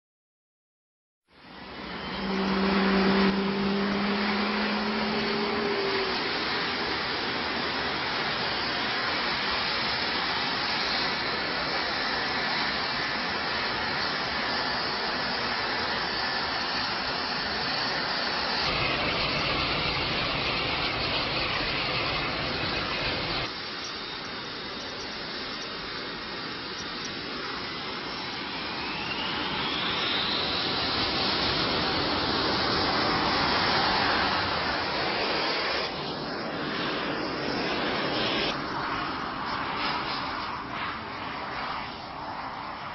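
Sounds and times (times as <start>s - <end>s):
faint high whine: 1.3s - 42.9s
jet engine idling hiss: 1.3s - 42.9s.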